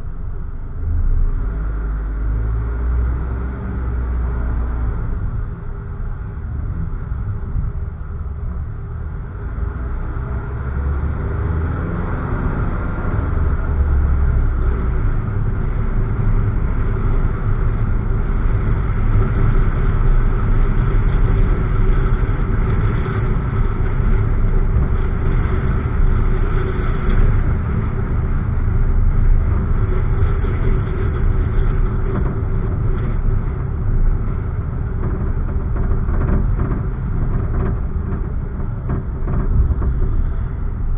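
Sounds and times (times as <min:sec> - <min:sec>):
car driving from inside cabin: 0:00.0 - 0:40.9.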